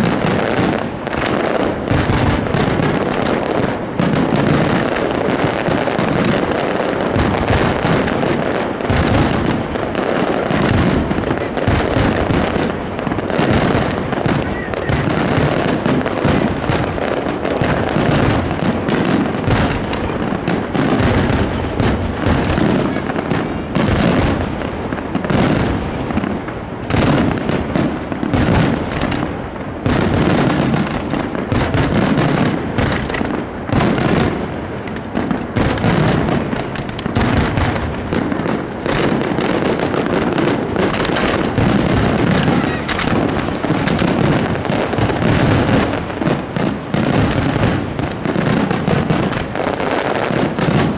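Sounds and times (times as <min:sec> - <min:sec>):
fireworks bursting overhead: 0:00.0 - 0:50.9.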